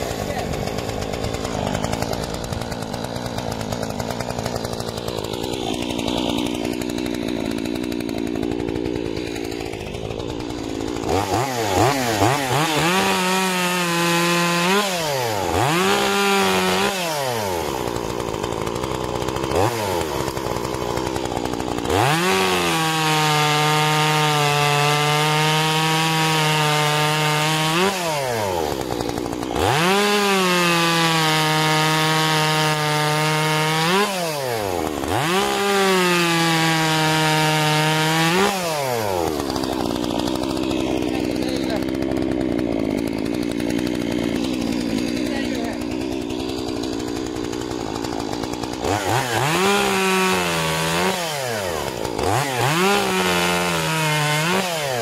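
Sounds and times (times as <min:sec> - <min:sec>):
chainsaw cutting log: 0:00.0 - 0:55.0
chainsaw revving: 0:00.0 - 0:55.0.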